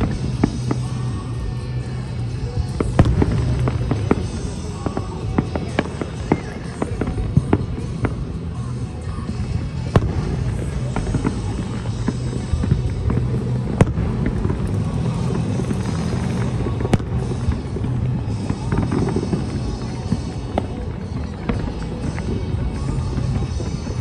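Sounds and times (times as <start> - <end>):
fireworks bangs and crackles: 0.0 - 24.0
low rumble: 0.0 - 24.0.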